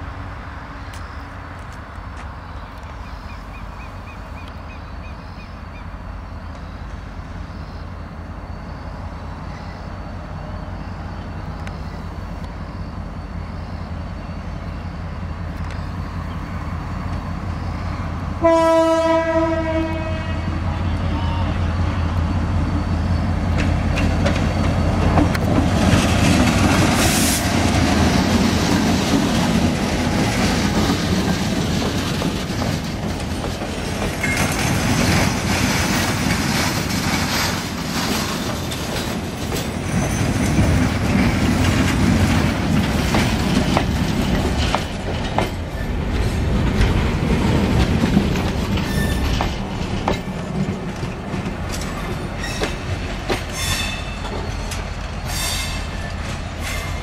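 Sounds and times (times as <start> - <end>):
locomotive engine drone: 0.0 - 57.0
train wheels rumbling and clicking: 0.8 - 18.6, 19.3 - 57.0
train wheel squeal: 2.4 - 18.7, 19.8 - 46.6, 48.0 - 51.1, 51.7 - 57.0.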